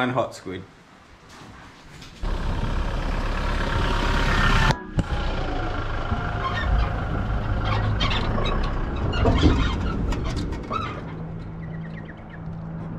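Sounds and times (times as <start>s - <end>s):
engine and tyres rumbling on dirt: 2.2s - 12.9s
trailer knocks and rattles: 2.2s - 12.9s.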